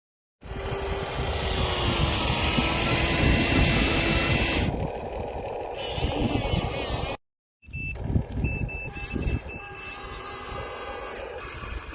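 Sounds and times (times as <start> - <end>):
toy truck motors whining: 0.4 - 7.2, 8.0 - 11.9.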